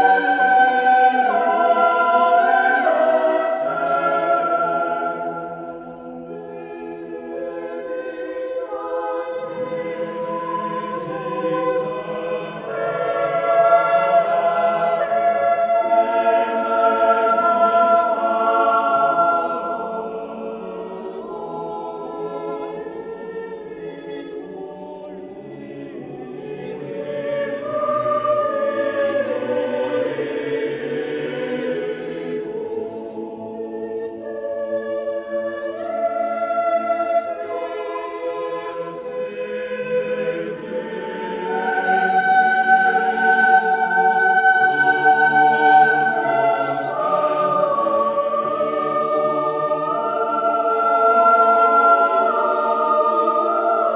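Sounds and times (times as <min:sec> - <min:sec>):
choir singing held chords: 0:00.0 - 0:53.9.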